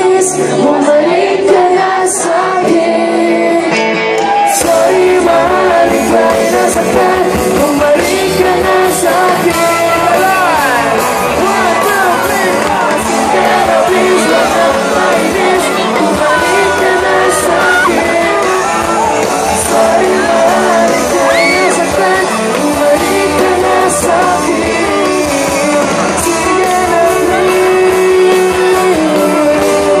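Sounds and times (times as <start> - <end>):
live pop-rock band playing: 0.0 - 30.0
person singing melody: 0.0 - 30.0.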